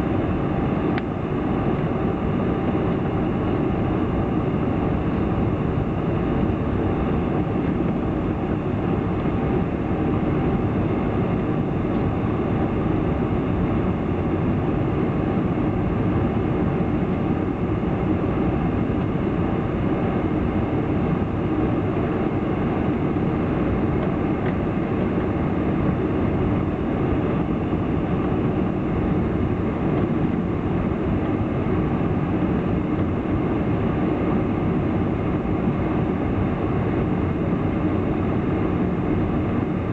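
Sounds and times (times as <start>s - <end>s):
airliner engines rumbling in cabin: 0.0s - 39.9s.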